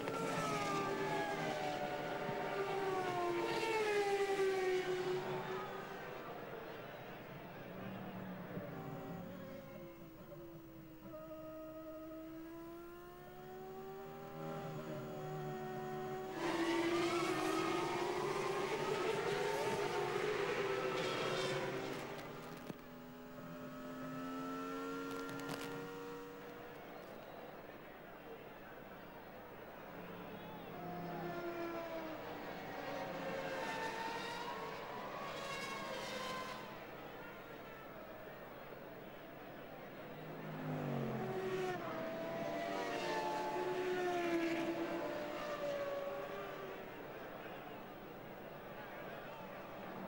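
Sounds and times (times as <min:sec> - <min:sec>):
racing car engine accelerating: 0:00.0 - 0:27.5, 0:30.1 - 0:37.9, 0:39.5 - 0:50.0
racing car passing by: 0:00.0 - 0:50.0.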